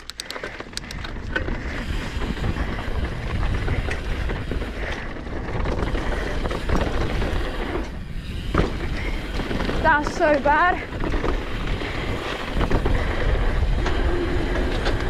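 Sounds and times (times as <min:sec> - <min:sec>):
bike rattling: 0:00.0 - 0:15.0
tyres rolling over dirt and stones: 0:00.4 - 0:15.0
wind rushing over microphone: 0:00.7 - 0:15.0.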